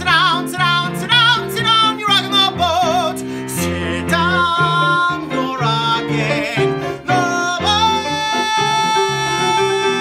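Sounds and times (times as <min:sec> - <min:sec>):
man singing with vibrato: 0:00.0 - 0:10.0
recorded instrumental accompaniment: 0:00.0 - 0:10.0.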